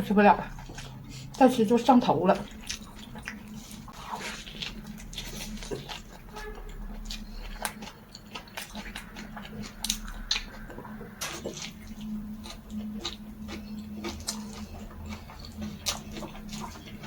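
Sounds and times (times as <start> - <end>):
chewing and biting food: 0.0 - 17.0.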